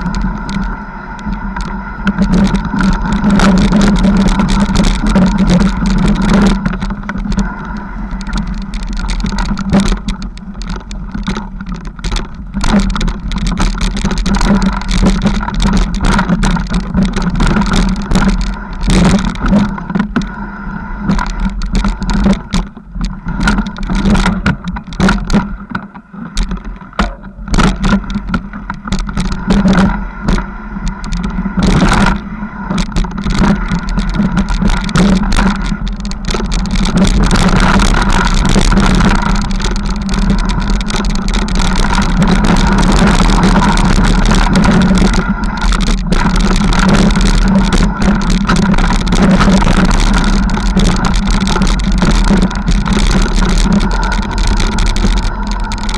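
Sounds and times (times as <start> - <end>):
bike knocks and rattles: 0.0 - 20.4, 21.0 - 55.9
bike rumbling over rough trail: 0.0 - 55.9.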